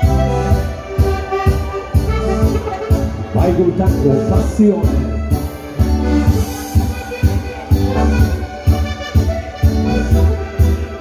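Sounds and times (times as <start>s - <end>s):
instrumental dance music: 0.0s - 11.0s.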